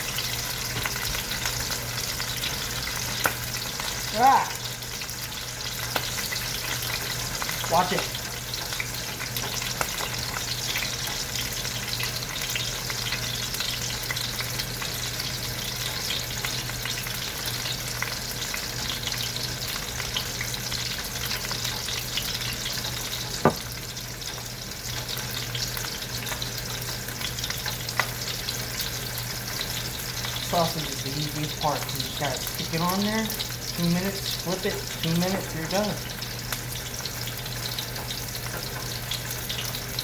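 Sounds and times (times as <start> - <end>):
sausage sizzling in a pan: 0.0 - 40.0.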